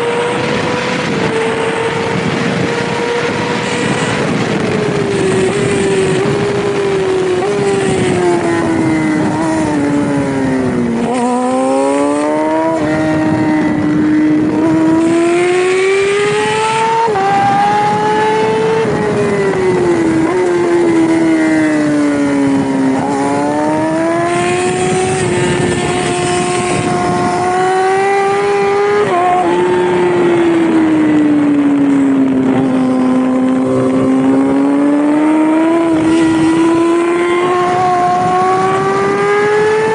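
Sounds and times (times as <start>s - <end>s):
motorcycle engine at high revs: 0.0s - 39.9s
wind rushing: 0.0s - 39.9s.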